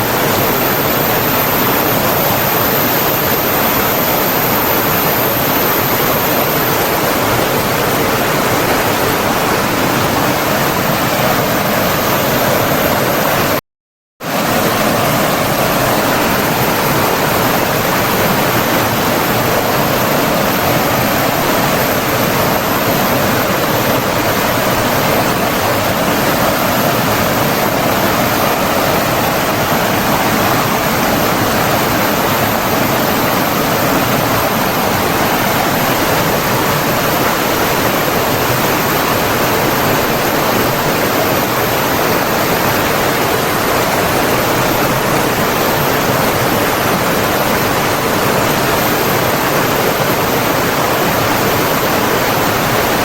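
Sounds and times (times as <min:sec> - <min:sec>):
flowing water rushing: 0:00.0 - 0:13.6, 0:14.3 - 0:53.0.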